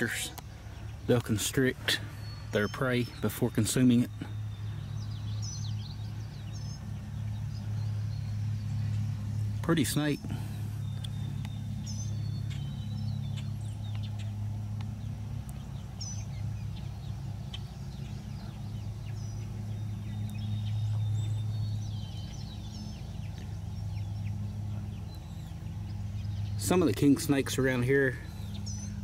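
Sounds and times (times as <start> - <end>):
low mechanical hum: 0.0 - 29.0
high bird chirps: 1.6 - 29.0.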